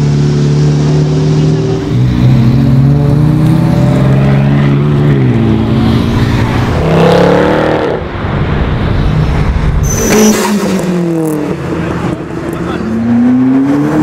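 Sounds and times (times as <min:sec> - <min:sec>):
sports car engine: 0:00.0 - 0:14.0.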